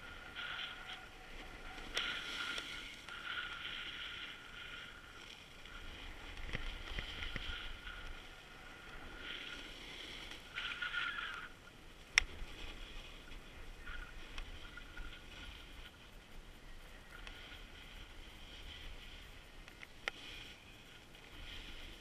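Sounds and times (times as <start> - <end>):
skis scraping on packed snow: 0.0 - 22.0
wind rumble on microphone: 0.0 - 22.0.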